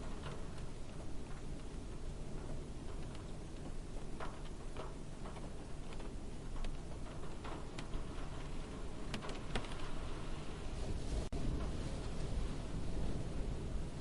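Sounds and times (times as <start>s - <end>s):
light rain on car roof: 0.0s - 14.0s.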